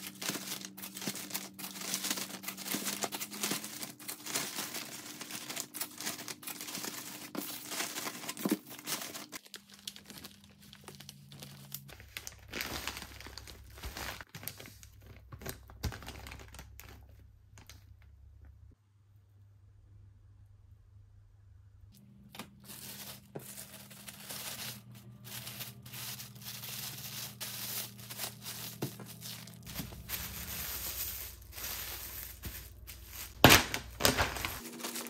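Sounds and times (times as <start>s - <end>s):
plastic bags crinkling: 0.0s - 17.8s, 22.4s - 35.0s.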